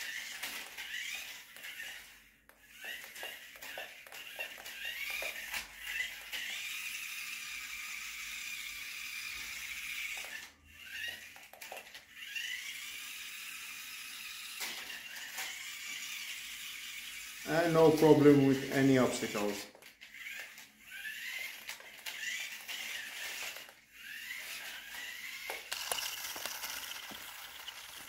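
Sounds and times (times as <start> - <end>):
toy car electric motor whining: 0.0 - 28.0.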